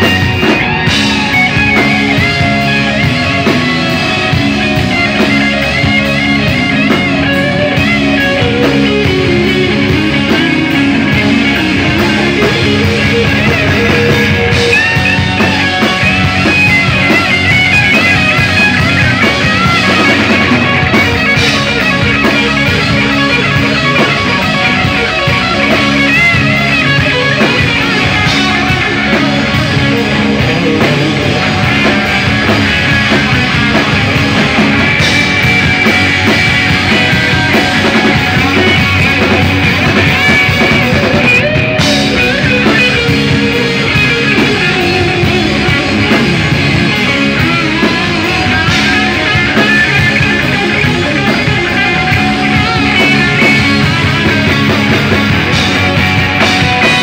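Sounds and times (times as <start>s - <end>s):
drum kit: 0.0s - 57.0s
electric guitar: 0.0s - 57.0s.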